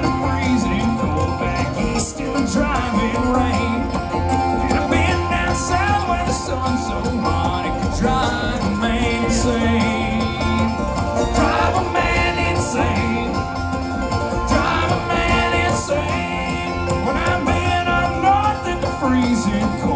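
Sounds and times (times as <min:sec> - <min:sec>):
bluegrass string band playing: 0:00.0 - 0:19.9.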